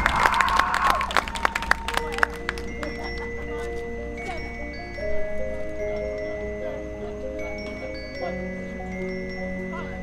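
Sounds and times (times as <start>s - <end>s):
mallet percussion notes ringing: 1.4s - 10.0s.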